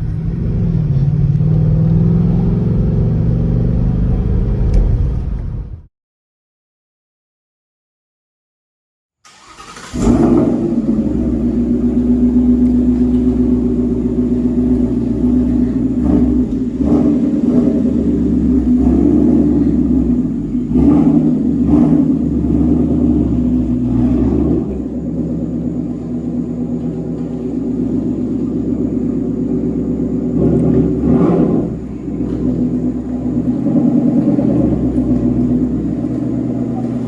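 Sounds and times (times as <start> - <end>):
car engine idling: 0.0 - 5.4, 9.3 - 37.0.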